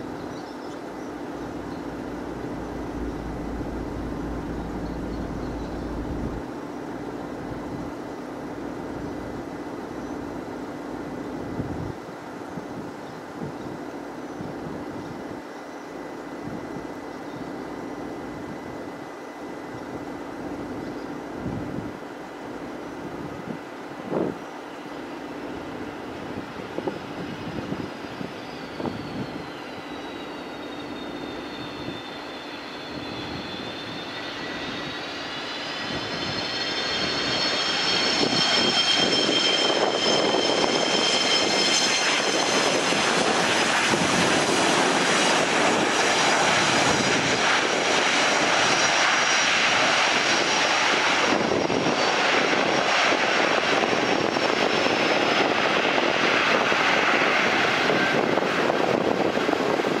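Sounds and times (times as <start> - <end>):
jet engines spooling up: 0.0 - 11.6, 21.7 - 60.0.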